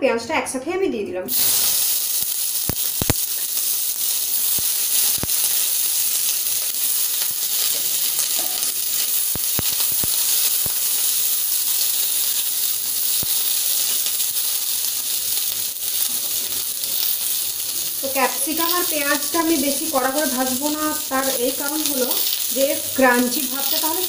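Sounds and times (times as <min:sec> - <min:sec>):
vegetables sizzling in hot oil: 0:01.3 - 0:24.0.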